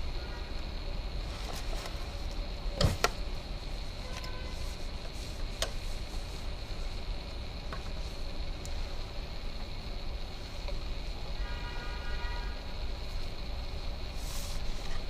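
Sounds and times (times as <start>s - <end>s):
faint high whine: 0.0s - 15.0s
low steady rumble: 0.0s - 15.0s.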